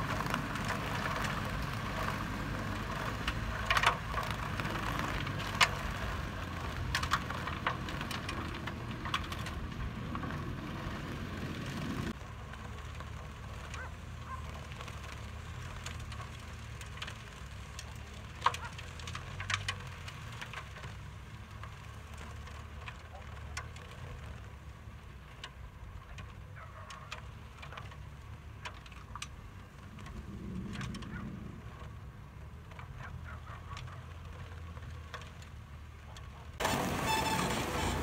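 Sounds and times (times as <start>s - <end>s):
sharp ticks and cracks: 0.0s - 11.0s, 11.6s - 36.6s
truck engine rumbling: 0.0s - 26.1s, 27.3s - 38.0s.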